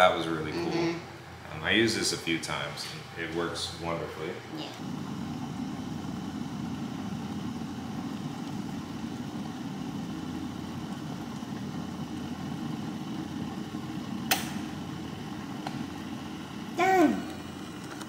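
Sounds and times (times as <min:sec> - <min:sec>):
electric kettle rumbling: 0:00.0 - 0:18.0.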